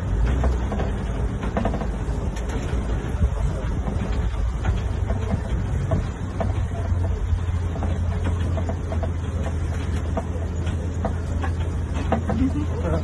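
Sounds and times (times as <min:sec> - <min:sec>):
rattles and knocks: 0:00.0 - 0:13.0
truck engine rumble: 0:00.0 - 0:13.0.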